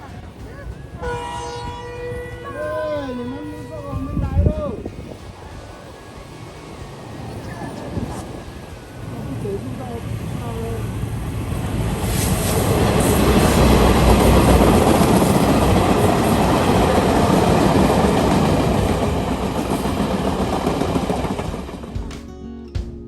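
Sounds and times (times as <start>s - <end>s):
train rolling on rails: 0.0s - 22.3s.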